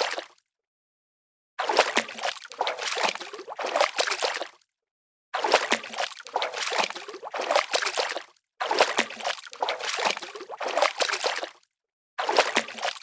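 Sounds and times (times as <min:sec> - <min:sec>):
water sloshing and splashing: 0:00.0 - 0:00.4, 0:01.6 - 0:04.6, 0:05.4 - 0:11.6, 0:12.2 - 0:13.0.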